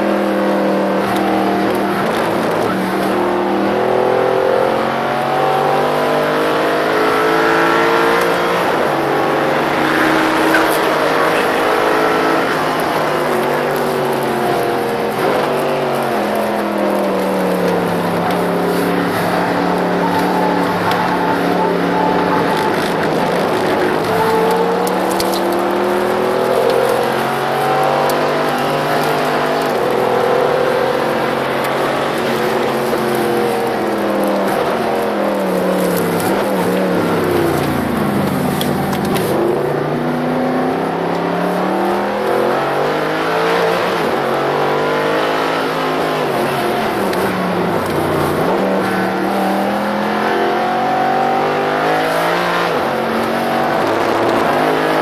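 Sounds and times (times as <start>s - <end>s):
car engine accelerating and braking: 0.0s - 55.0s
wind and tyre noise: 0.0s - 55.0s.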